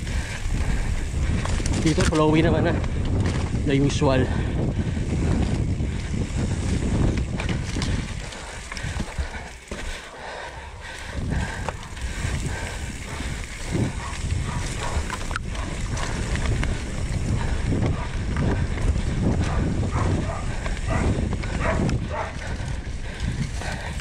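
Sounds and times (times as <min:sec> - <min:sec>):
bike knocking and rattling: 0:00.0 - 0:24.0
bike tyres on dirt: 0:00.0 - 0:24.0
wind rumble on microphone: 0:00.0 - 0:24.0.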